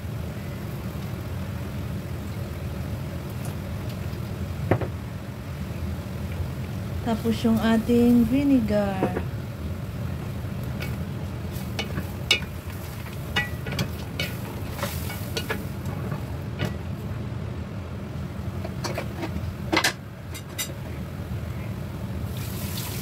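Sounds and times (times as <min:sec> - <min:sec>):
steady low hum: 0:00.0 - 0:22.4
light sizzle: 0:00.0 - 0:23.0.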